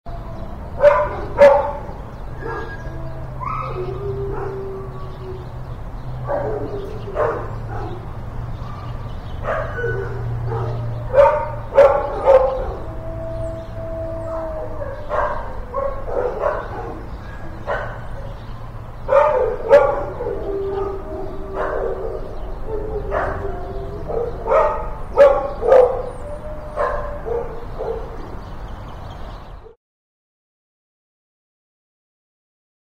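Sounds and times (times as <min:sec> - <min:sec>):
dogs barking and yipping: 0:00.1 - 0:29.8.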